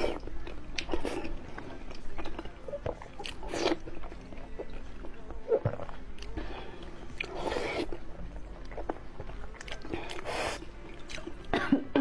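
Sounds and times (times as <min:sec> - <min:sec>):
chewing noodles: 0:00.0 - 0:11.5.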